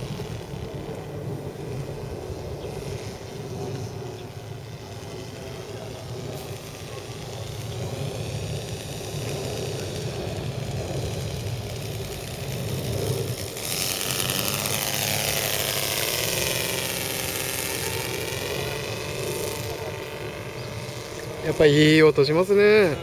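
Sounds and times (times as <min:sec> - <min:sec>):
model plane engine passing: 0:00.0 - 0:23.0.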